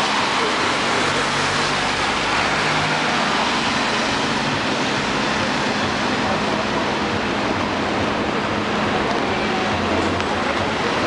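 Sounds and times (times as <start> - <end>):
rain and tyres on wet road: 0.0 - 11.0
truck engine passing: 0.0 - 11.0.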